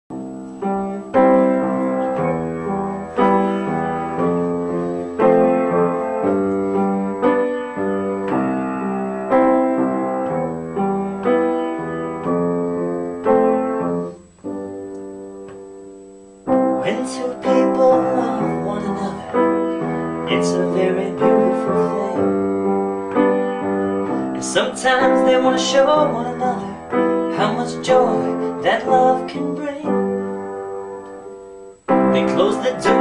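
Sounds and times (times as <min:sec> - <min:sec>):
piano chords ringing: 0:00.1 - 0:33.0.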